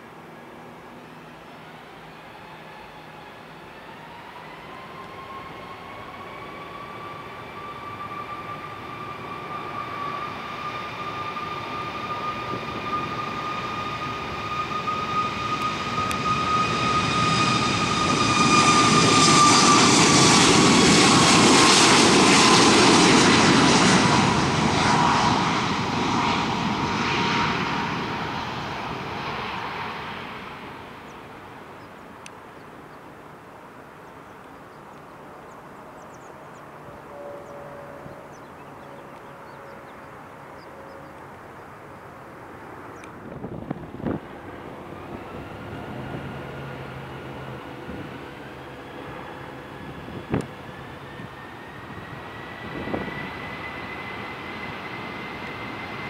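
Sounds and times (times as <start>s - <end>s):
jet engine fan whine: 0.0s - 56.0s
jet engine roar: 0.2s - 56.0s.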